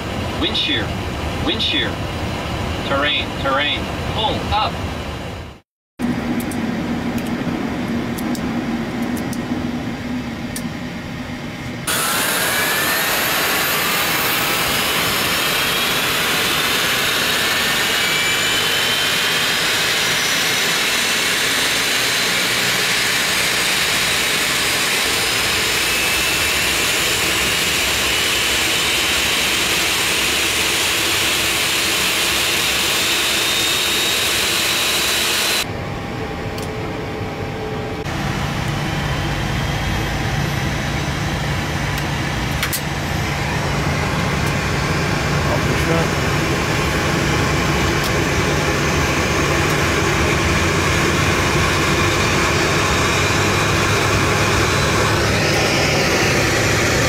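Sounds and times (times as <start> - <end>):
cockpit low hum: 0.0 - 57.0
jet engine spooling up: 0.0 - 57.0.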